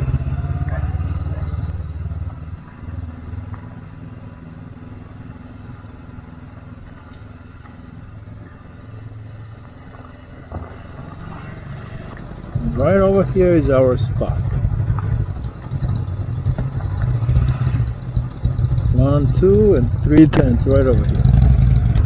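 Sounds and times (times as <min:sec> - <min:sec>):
motorcycle engine low hum: 0:00.0 - 0:22.0.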